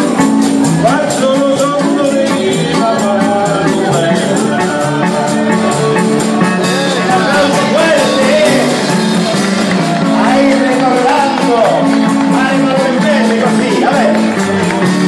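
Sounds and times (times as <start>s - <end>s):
amplified party music with singing: 0.0s - 15.0s.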